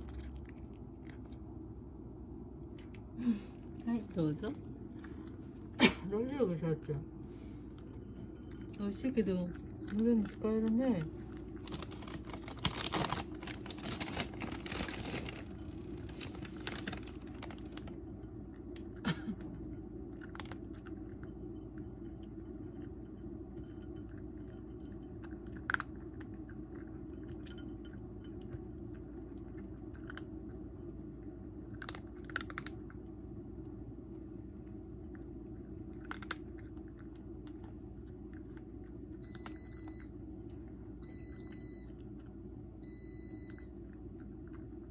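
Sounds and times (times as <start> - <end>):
cat crunching dry kibble: 0.0 - 1.7, 2.6 - 5.8, 7.7 - 39.6
steady low hum: 0.0 - 44.9.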